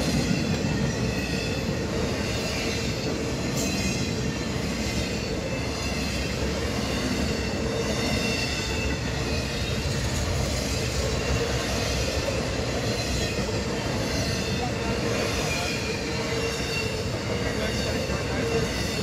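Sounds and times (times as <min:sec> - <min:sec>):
high wheel squeal: 0:00.0 - 0:19.0
steel wheels rumbling on rail: 0:00.0 - 0:19.0.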